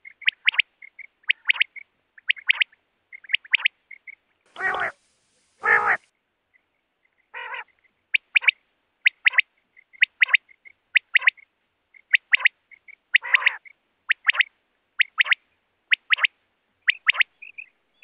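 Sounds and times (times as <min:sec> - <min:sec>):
low nasal quail calls: 0:00.0 - 0:05.0, 0:05.6 - 0:06.1, 0:07.3 - 0:11.4, 0:12.0 - 0:17.8.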